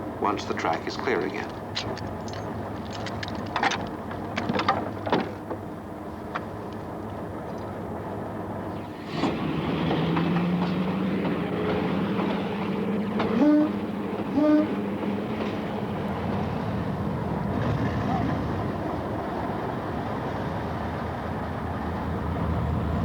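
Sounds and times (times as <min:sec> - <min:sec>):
low engine hum: 0:00.0 - 0:23.0
train clanking on track: 0:00.0 - 0:23.0.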